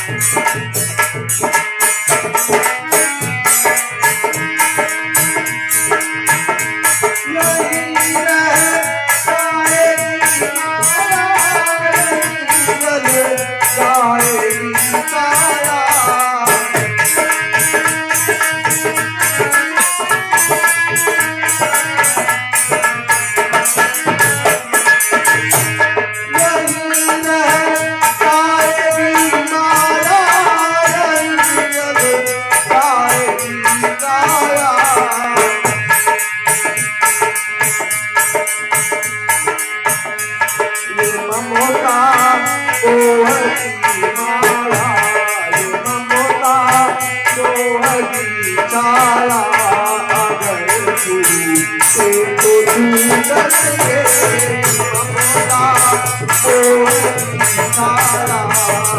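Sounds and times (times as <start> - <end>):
fast hand drumming: 0.0 - 58.9
jingling rattle percussion: 0.0 - 58.9.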